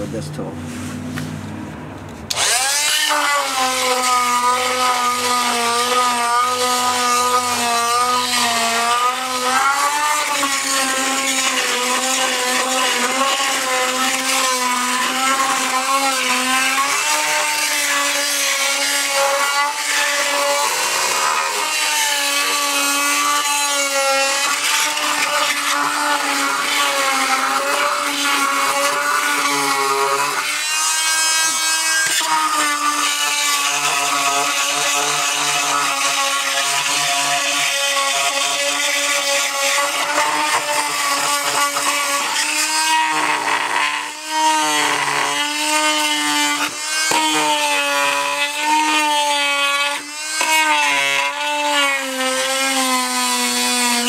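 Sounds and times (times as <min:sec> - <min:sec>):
blade scraping mortar: 0:02.3 - 0:54.0
oscillating tool buzzing: 0:02.3 - 0:54.0.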